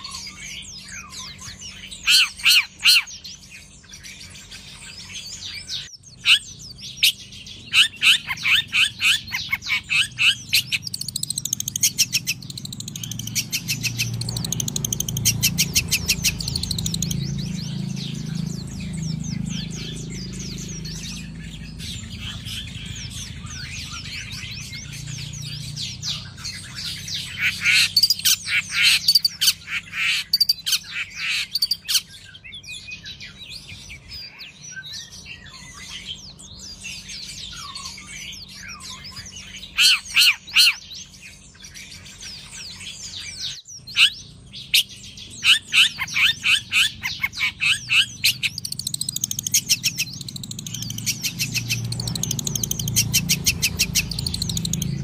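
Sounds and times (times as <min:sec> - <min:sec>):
bird chirping rapidly: 0:00.0 - 0:55.0.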